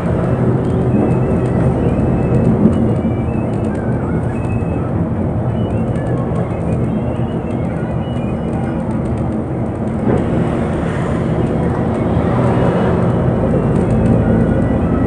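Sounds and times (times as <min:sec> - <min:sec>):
bus engine droning: 0:00.0 - 0:15.0
road noise: 0:00.0 - 0:15.0.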